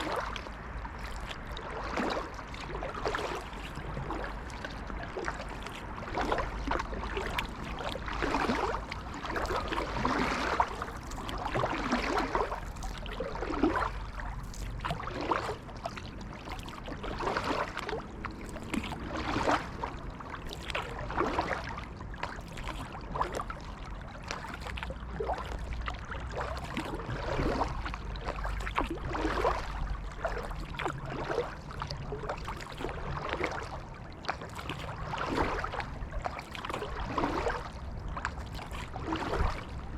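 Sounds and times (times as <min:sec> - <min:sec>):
paddle strokes splashing: 0:00.0 - 0:39.9
water trickling off paddle: 0:00.0 - 0:39.9.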